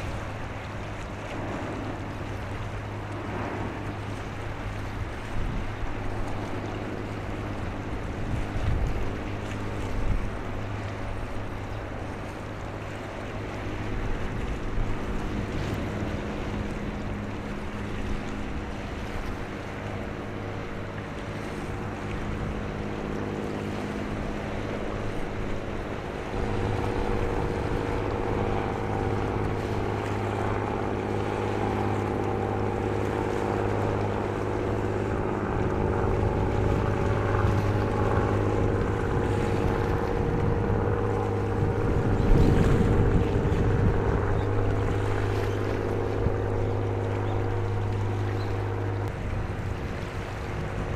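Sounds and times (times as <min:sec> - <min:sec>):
bow wave wash: 0:00.0 - 0:50.9
ship diesel engine droning: 0:00.0 - 0:50.9
wind buffeting microphone: 0:00.0 - 0:50.9.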